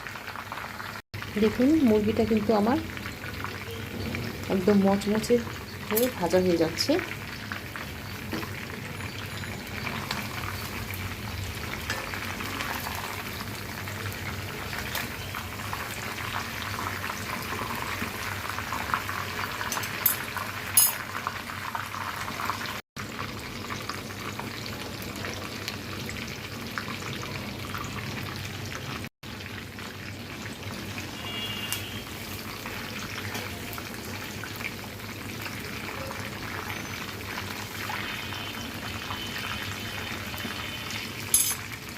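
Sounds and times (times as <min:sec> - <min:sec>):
chicken sizzling in hot oil: 0:00.0 - 0:41.9.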